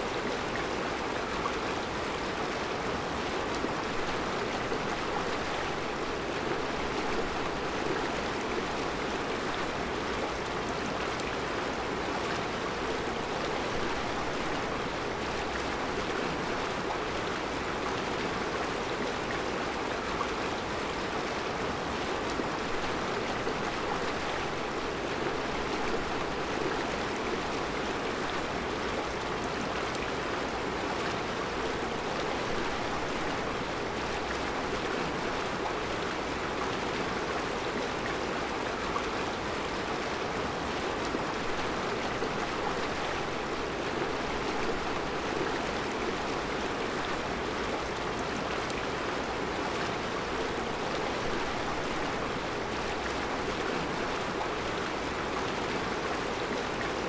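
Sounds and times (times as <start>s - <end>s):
river flowing over rocks: 0.0s - 57.0s.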